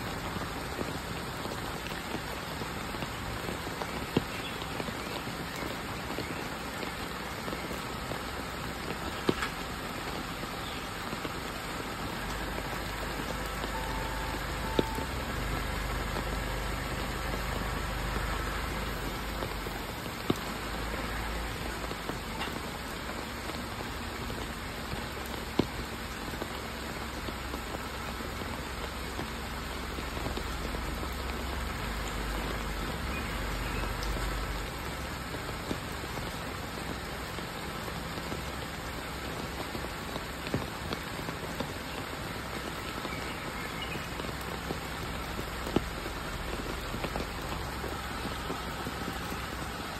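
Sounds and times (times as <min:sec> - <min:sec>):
rain on wet ground: 0:00.0 - 0:49.9
water dripping taps: 0:00.1 - 0:49.9.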